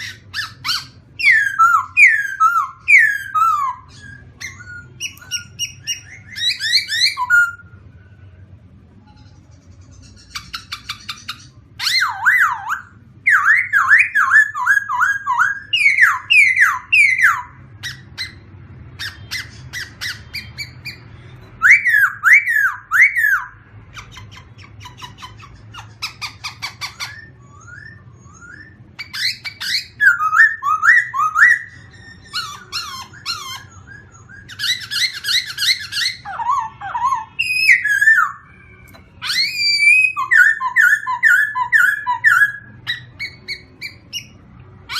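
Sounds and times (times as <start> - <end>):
songbird singing whistled notes: 0.0 - 8.2, 9.0 - 44.9
faint low hum: 0.0 - 44.9.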